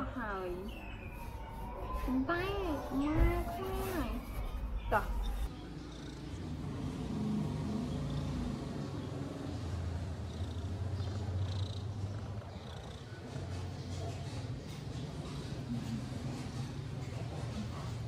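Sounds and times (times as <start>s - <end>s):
cat purring: 2.1s - 18.0s.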